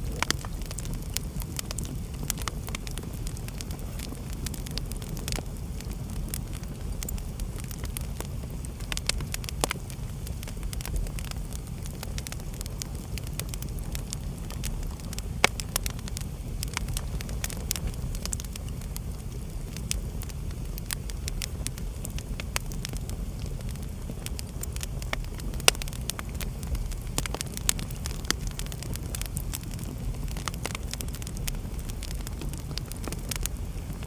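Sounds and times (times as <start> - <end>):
loud fire pops: 0.0 - 34.0
wood fire crackling: 0.0 - 34.0.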